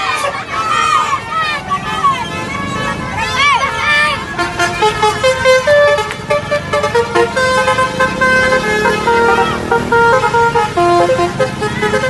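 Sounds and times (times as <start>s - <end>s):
bus melody horns playing: 0.0s - 12.0s.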